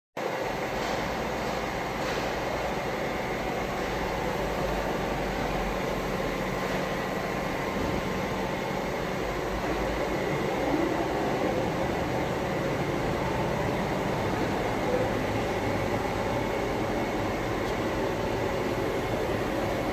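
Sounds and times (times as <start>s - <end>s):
machinery hum and whir: 0.2s - 19.9s.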